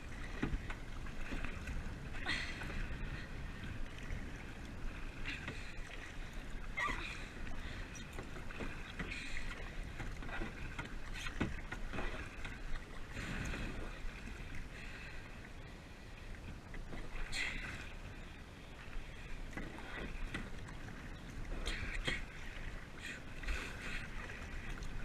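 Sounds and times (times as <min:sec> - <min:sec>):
paddle strokes splashing water: 0:00.0 - 0:25.0.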